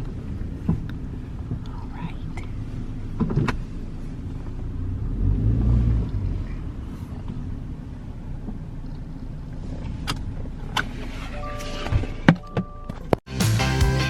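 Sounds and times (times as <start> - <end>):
car engine rumbling: 0.0 - 13.2.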